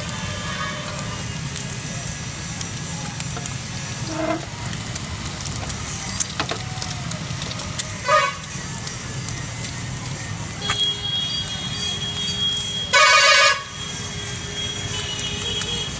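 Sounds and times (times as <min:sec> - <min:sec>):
egg sizzling in hot oil: 0:00.0 - 0:15.9.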